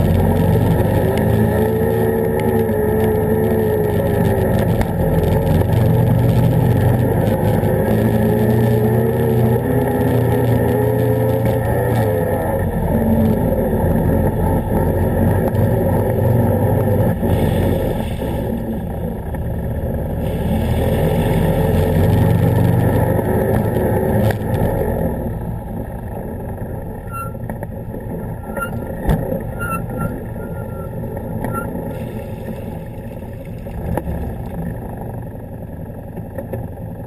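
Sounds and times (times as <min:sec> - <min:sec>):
atv engine revving: 0:00.0 - 0:37.0.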